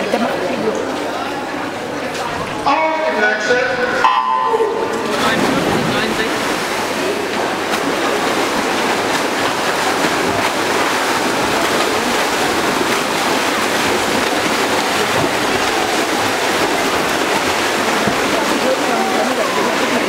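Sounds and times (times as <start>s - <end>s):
swimmers splashing in pool water: 0.0s - 20.0s.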